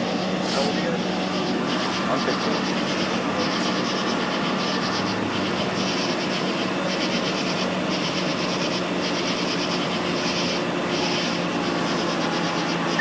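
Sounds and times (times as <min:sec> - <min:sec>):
night insects calling: 0:00.0 - 0:13.0
steady low hum: 0:00.0 - 0:13.0.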